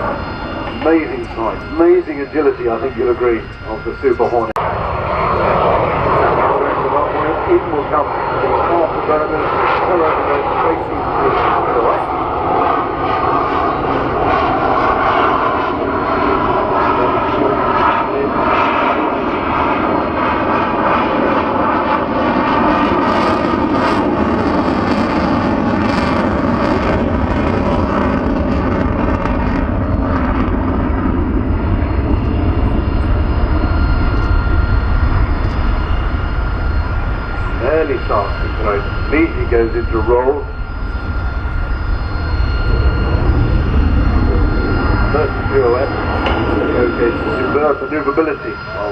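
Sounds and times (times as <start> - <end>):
jet engine roar: 0.0 - 48.9.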